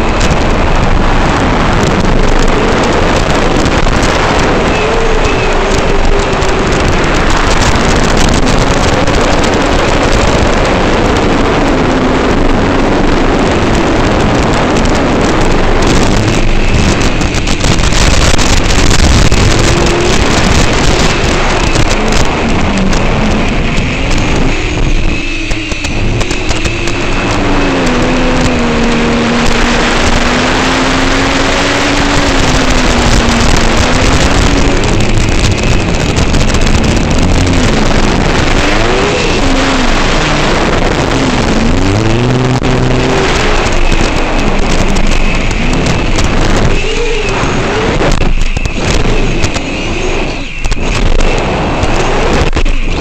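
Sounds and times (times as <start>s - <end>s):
drone motors buzzing whine: 0.0s - 53.0s
wind rush: 0.0s - 53.0s.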